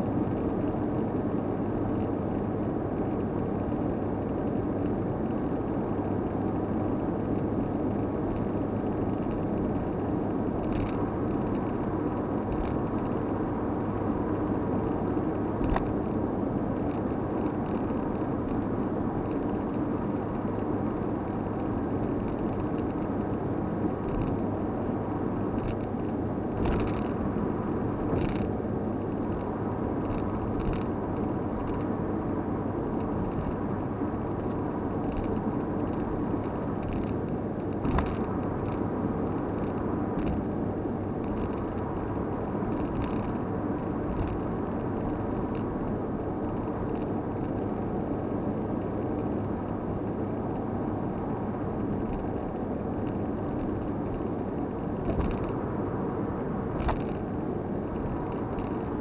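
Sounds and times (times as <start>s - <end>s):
car road noise: 0.0s - 59.0s.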